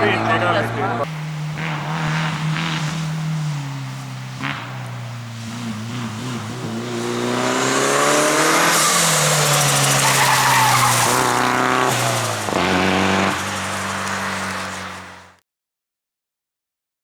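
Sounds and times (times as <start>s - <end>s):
loud tyre noise: 0.0s - 15.4s
rally car engine accelerating: 0.0s - 15.4s
gear change: 1.1s - 15.3s.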